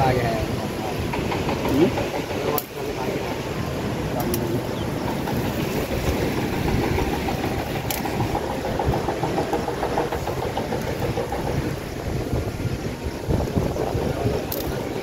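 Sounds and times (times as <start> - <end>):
river rushing: 0.0 - 15.0
wind on microphone: 0.0 - 15.0.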